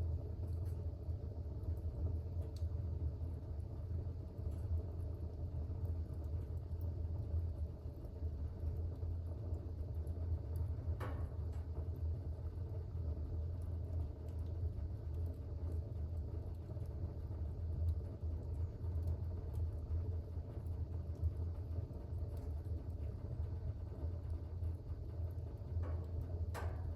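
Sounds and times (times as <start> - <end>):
crackles and pops: 0.0 - 26.9
fire burning in fireplace: 0.0 - 26.9.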